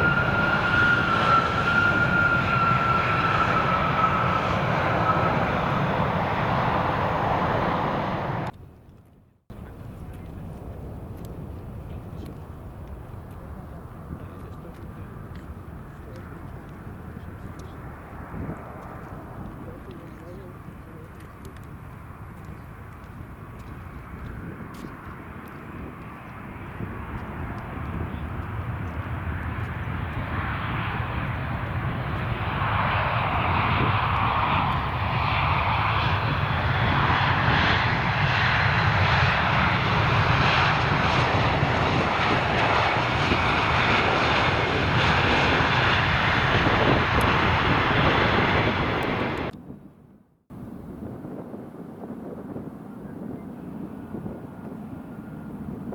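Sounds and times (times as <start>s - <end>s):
jet airliner engines: 0.0s - 55.9s.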